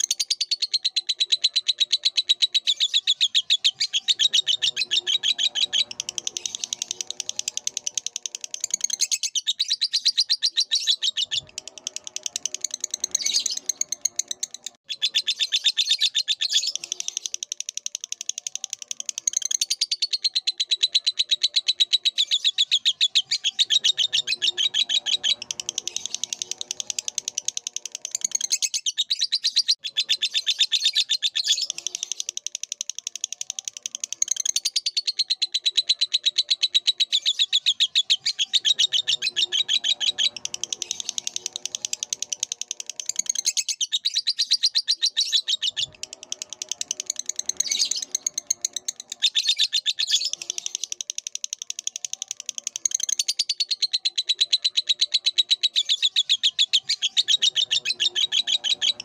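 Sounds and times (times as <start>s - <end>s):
lovebird chattering song: 0.0s - 59.0s.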